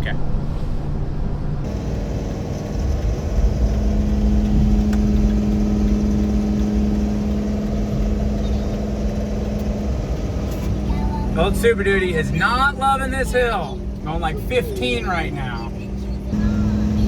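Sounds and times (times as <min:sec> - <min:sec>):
truck engine straining under load: 0:01.7 - 0:17.0.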